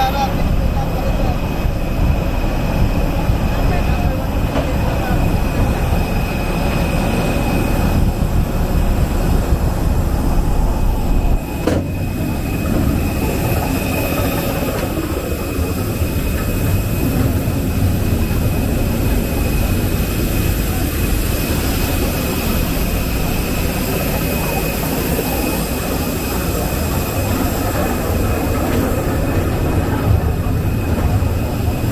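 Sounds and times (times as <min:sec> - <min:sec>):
high steady whines: 0:00.0 - 0:31.9
rush of cabin air: 0:00.0 - 0:31.9.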